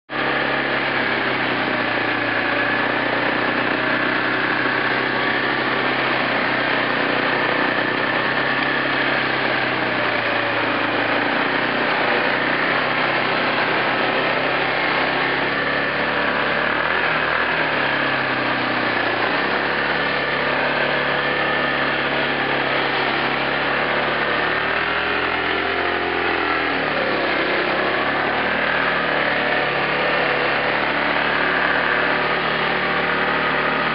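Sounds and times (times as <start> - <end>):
atv engine running: 0.1 - 33.9.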